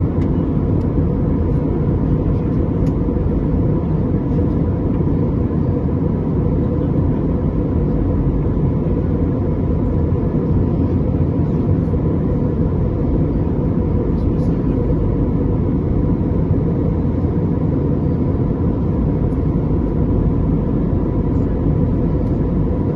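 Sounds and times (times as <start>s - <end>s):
airliner cabin engine rumble: 0.0s - 22.9s.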